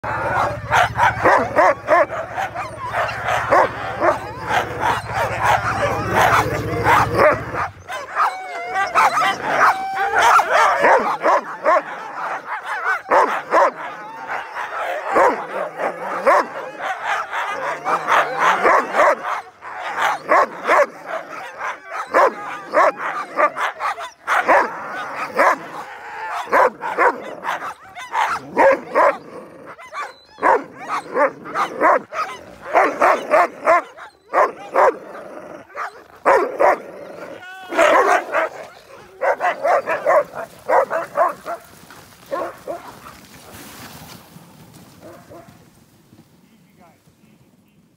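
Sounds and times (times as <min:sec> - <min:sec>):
dogs barking yelping and howling: 0:00.0 - 0:43.3, 0:45.0 - 0:45.6.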